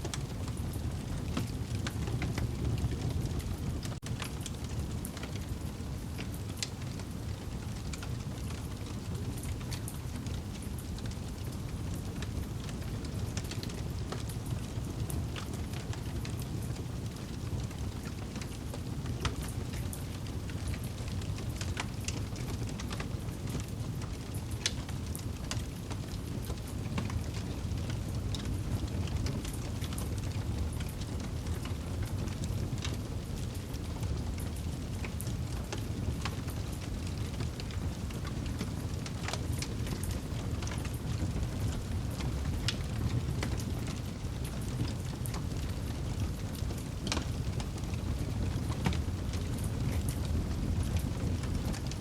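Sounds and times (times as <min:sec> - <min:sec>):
burning wood crackling and popping: 0:00.0 - 0:52.0
rush of fire flames: 0:00.1 - 0:52.0.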